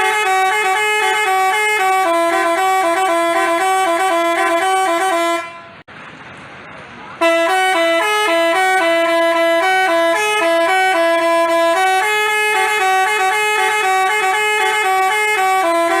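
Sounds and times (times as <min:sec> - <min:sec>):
bus horn playing a tune: 0:00.0 - 0:05.9, 0:07.2 - 0:16.0.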